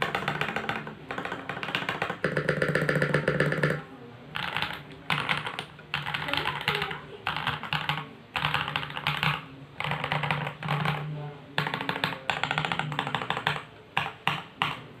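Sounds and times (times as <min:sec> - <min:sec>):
mechanical keyboard typing: 0:00.0 - 0:15.0.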